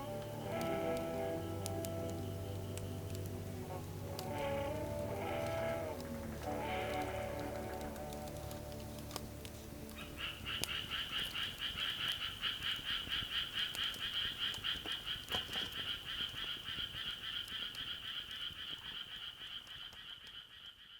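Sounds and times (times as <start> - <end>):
animal trilling call: 0.0 - 8.8, 9.9 - 17.9.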